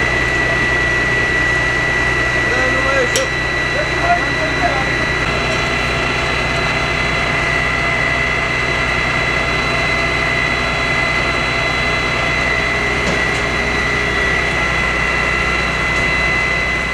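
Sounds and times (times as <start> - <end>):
fire engine engine droning: 0.0 - 16.9
high-pitched whine: 0.0 - 16.9.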